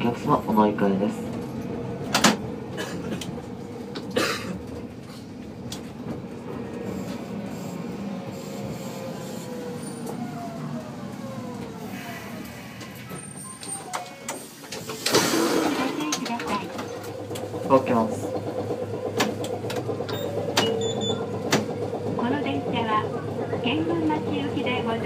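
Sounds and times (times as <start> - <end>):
tram running rumble: 0.0 - 25.0.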